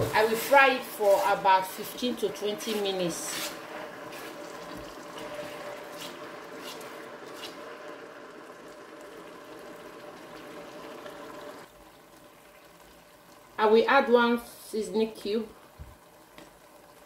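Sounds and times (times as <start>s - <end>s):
paste frying and bubbling in oil: 0.0s - 17.0s.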